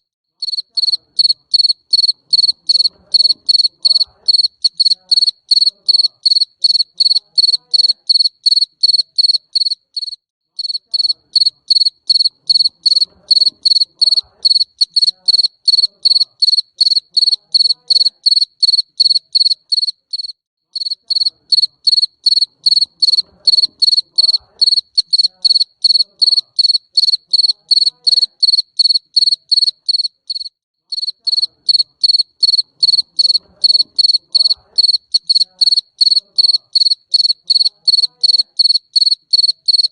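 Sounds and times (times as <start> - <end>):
cricket chirping: 0.4 - 39.9.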